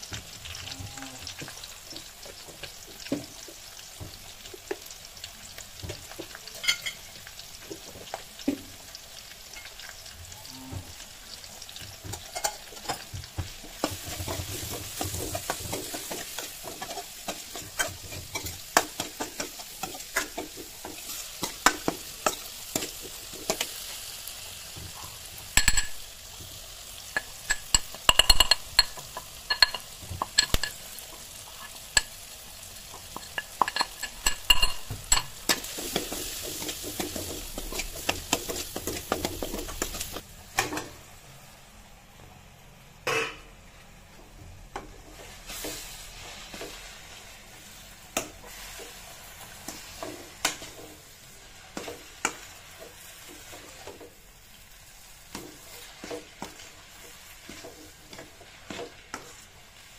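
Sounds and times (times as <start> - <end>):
vegetables sizzling in oil: 0.0 - 42.1, 43.7 - 59.9.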